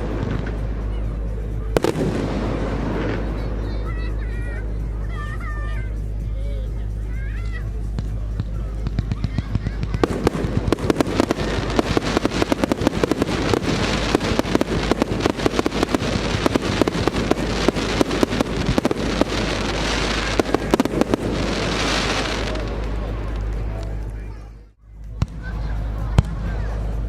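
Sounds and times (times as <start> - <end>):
fireworks bangs and crackles: 0.0 - 6.2, 7.0 - 24.4, 25.0 - 27.0
dense crackling hiss: 0.0 - 27.0.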